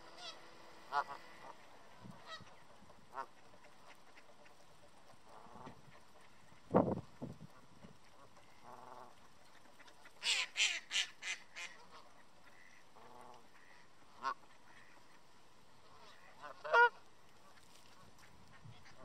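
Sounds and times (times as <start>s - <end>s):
geese honking: 0.0s - 6.7s, 8.0s - 19.0s.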